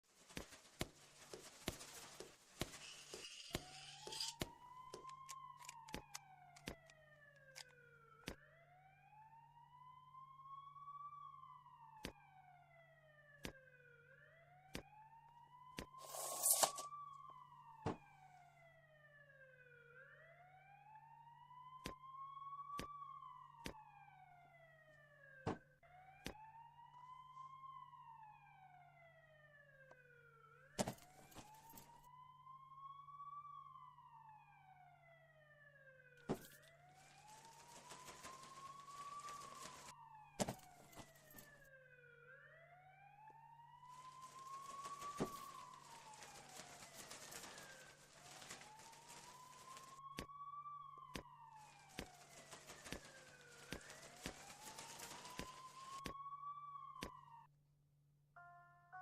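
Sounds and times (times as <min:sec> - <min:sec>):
ambulance siren wailing: 0:01.2 - 0:57.5.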